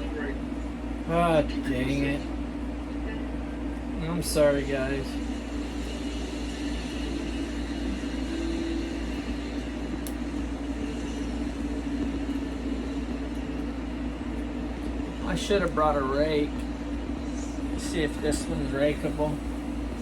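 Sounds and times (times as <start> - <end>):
low room noise hum: 0.0 - 20.0.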